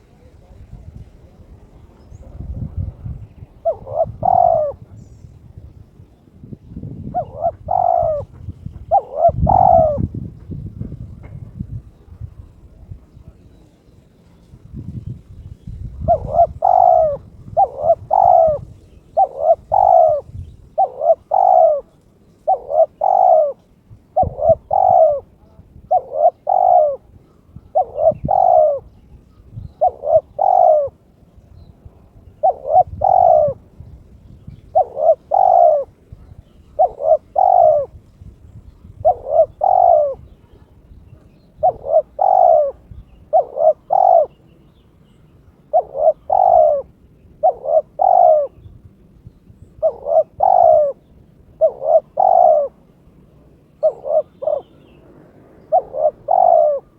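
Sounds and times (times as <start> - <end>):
dove cooing: 1.7 - 5.2, 6.4 - 12.4, 15.7 - 31.2, 32.1 - 38.0, 38.6 - 44.8, 45.6 - 48.8, 49.6 - 56.9.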